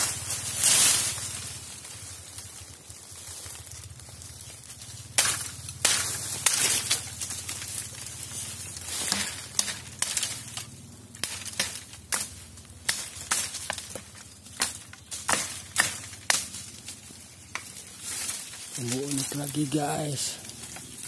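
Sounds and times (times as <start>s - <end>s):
bamboo stems cracking and snapping: 0.0s - 21.0s
rustling through thicket: 0.0s - 21.0s.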